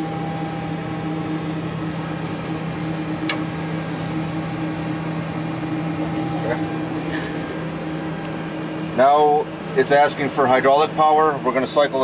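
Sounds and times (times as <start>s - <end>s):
ventilation fans humming: 0.0s - 12.0s.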